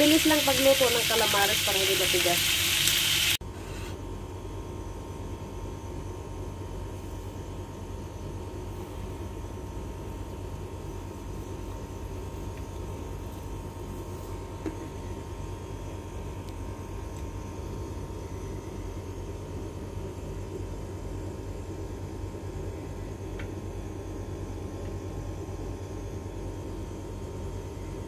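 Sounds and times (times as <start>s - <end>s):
mechanical hum with hiss: 0.0s - 28.0s.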